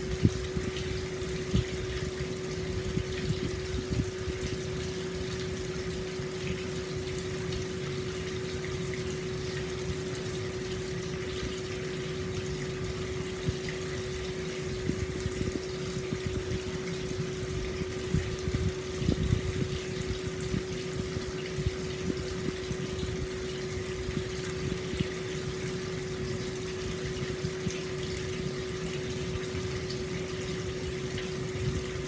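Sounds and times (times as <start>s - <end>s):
steady hum: 0.0s - 32.0s
water pouring into a bath: 0.0s - 32.0s.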